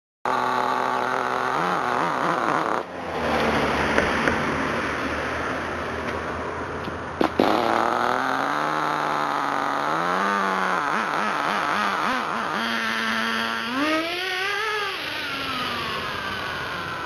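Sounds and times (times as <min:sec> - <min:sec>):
nitro engine buzzing: 0:00.3 - 0:17.0.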